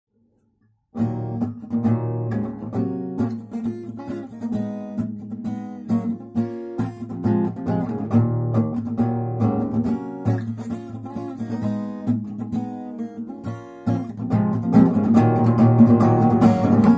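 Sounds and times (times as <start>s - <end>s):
acoustic guitar strumming: 1.0s - 16.9s.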